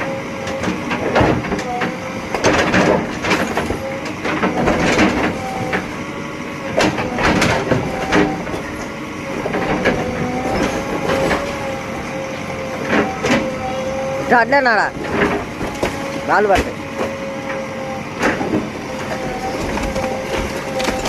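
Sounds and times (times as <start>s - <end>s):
backhoe engine whining: 0.0s - 21.0s.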